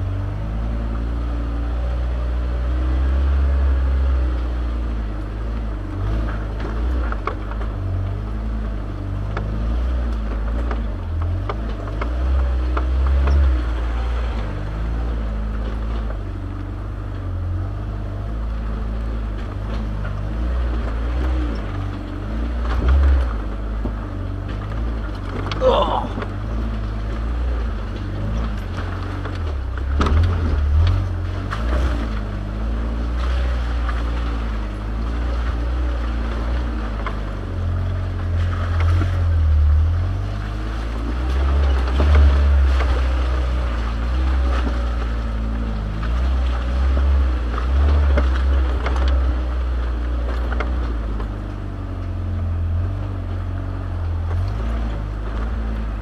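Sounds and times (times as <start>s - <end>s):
vehicle engine rumble: 0.0s - 56.0s
vehicle body knocking and rattling: 5.2s - 17.9s, 18.6s - 56.0s.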